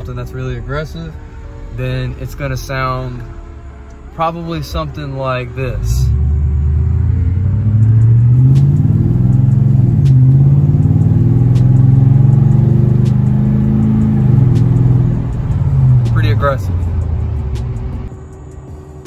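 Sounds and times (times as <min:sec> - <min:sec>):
engine exhaust drone accelerating: 0:00.0 - 0:19.0.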